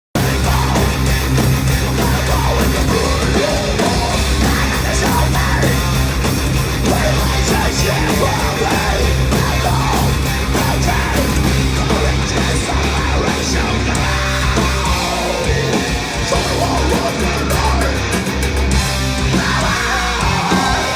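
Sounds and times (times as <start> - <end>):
heavy metal band playing live: 0.2 - 20.9.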